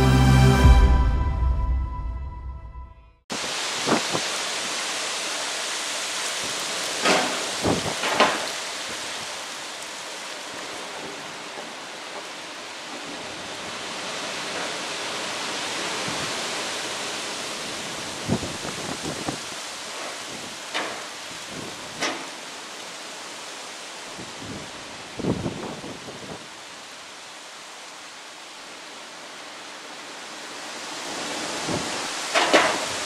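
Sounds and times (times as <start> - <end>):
heavy rain: 0.0 - 1.6, 3.3 - 33.0.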